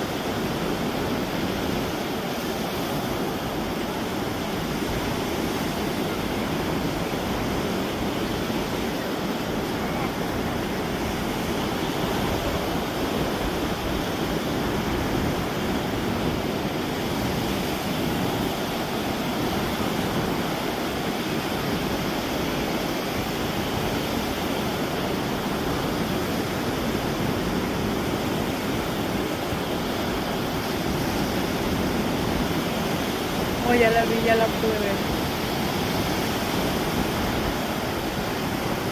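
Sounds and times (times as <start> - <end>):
ocean surf washing: 0.0 - 38.9.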